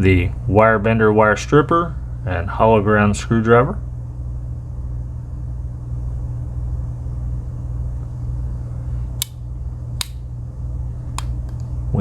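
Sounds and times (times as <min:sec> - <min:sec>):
low room hum and rumble: 0:00.0 - 0:12.0.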